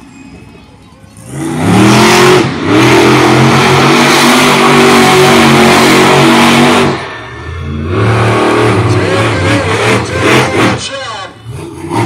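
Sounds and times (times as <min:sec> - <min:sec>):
monster truck engine revving: 0:01.1 - 0:12.0.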